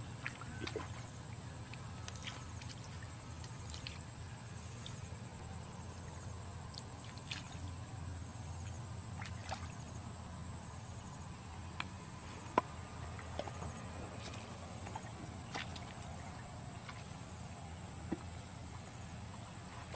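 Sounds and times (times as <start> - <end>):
sloshing through muddy water: 0.0 - 10.1, 12.7 - 19.9.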